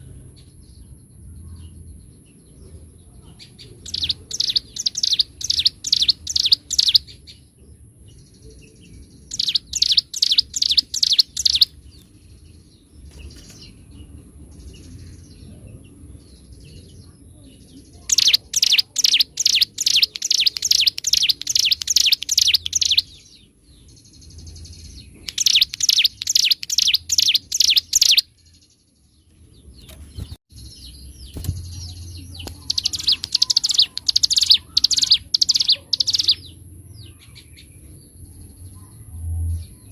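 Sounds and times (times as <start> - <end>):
bird singing rapid rattling phrases: 0.0 - 38.9
soft bird twittering: 0.0 - 39.9.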